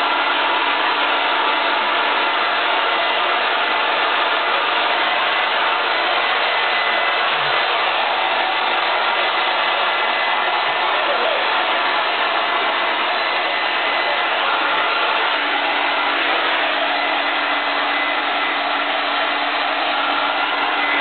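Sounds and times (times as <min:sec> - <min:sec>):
hair dryer blowing air: 0:00.0 - 0:21.0.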